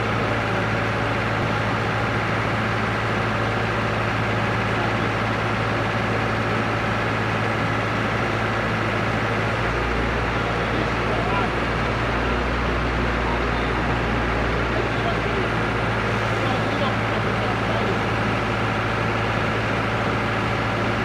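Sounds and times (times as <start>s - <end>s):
lift engine humming: 0.0s - 21.0s.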